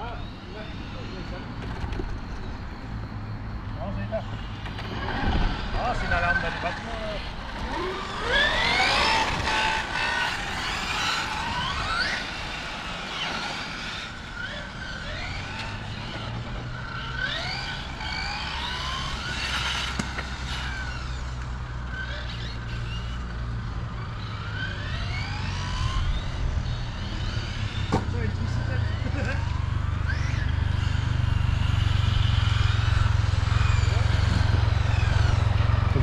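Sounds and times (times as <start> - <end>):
radio-controlled car motors whining: 0.0 - 36.0.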